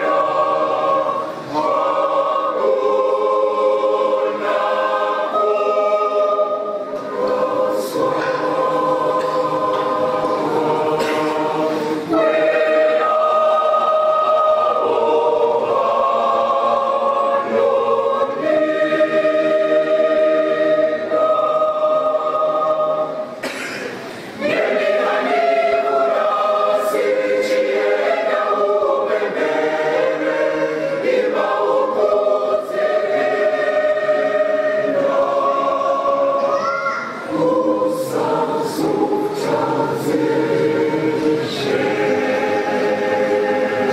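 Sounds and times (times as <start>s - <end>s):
church choir singing: 0.0s - 43.9s.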